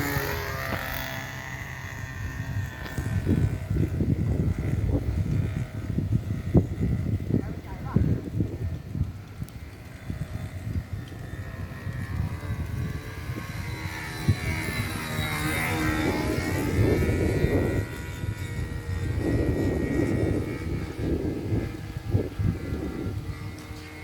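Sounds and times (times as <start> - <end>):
model airplane engine whine: 0.0 - 24.0.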